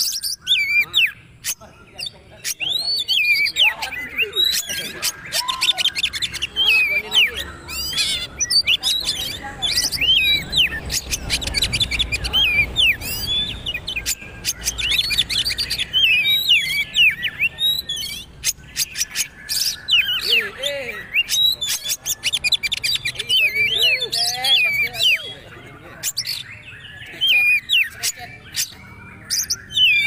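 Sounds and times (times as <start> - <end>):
songbird whistling and chattering: 0.0 - 30.0.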